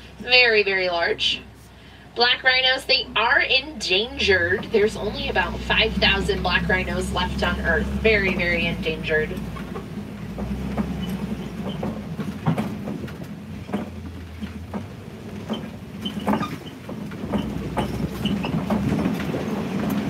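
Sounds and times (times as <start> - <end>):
truck engine rumble: 0.0 - 20.0
vehicle clattering and rattling: 2.5 - 20.0.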